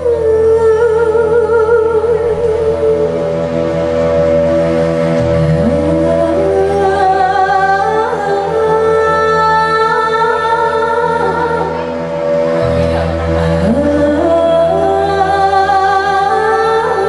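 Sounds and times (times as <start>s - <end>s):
low sustained drone: 0.0s - 17.0s.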